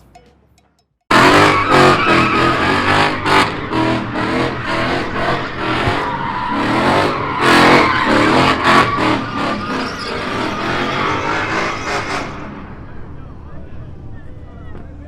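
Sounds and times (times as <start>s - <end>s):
car engine revving: 1.1s - 13.3s
tyres squealing on pavement: 1.1s - 13.4s.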